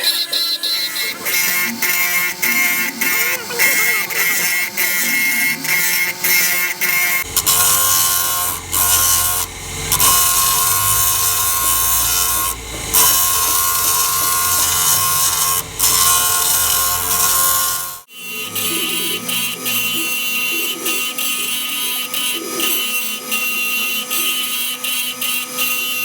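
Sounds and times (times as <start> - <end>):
power grinder on metal: 0.0 - 26.0.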